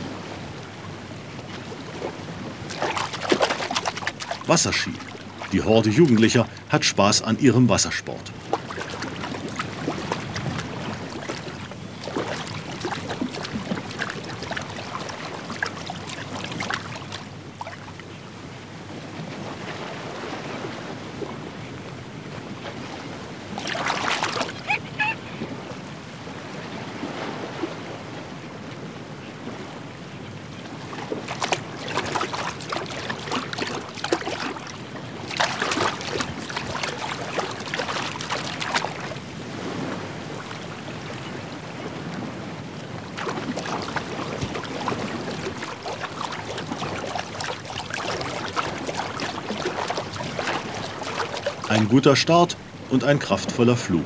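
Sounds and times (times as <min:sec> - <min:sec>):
water splashing: 0:00.0 - 0:21.6, 0:22.4 - 0:25.8, 0:30.6 - 0:54.0
lagoon water washing: 0:00.0 - 0:54.0
wind: 0:00.0 - 0:54.0.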